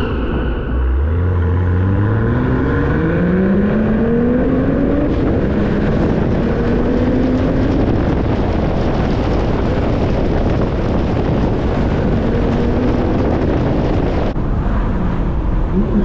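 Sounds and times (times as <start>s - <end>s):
car engine accelerating: 0.0s - 16.0s
wind rushing over microphone: 0.0s - 16.0s.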